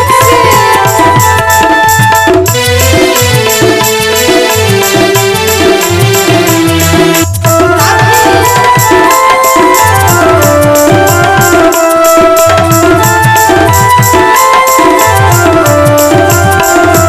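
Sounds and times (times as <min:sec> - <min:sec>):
hand drums beating: 0:00.0 - 0:17.0
melody of long held notes: 0:00.0 - 0:17.0.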